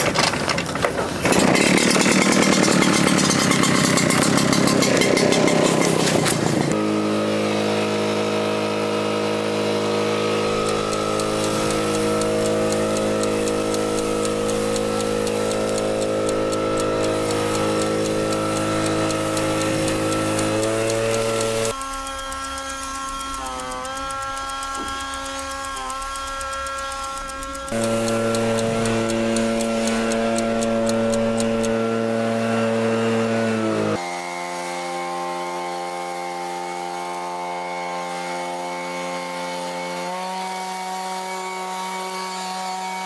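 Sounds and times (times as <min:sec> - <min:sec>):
blower engine pull-started: 0:00.0 - 0:39.8
air blasting: 0:01.3 - 0:40.2.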